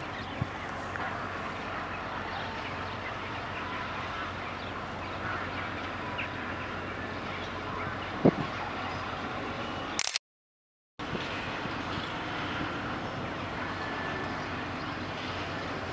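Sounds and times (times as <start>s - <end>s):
distant locomotive low hum: 0.0s - 10.0s, 11.0s - 15.9s.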